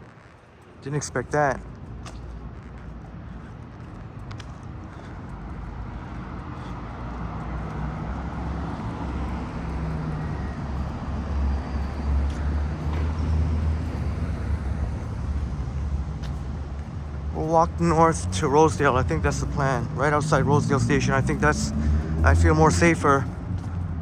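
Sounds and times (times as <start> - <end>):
low traffic rumble: 0.0 - 24.0
vehicles passing: 0.0 - 24.0.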